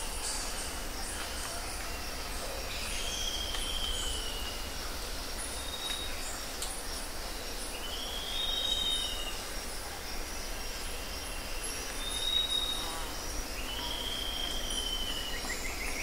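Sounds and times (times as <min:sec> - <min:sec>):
pulsing insect calls: 0:00.0 - 0:16.0.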